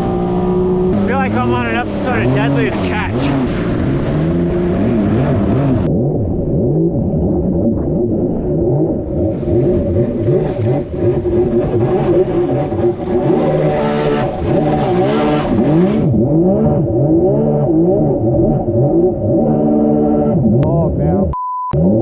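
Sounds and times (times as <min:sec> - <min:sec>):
jet ski engine revving: 0:00.0 - 0:21.2.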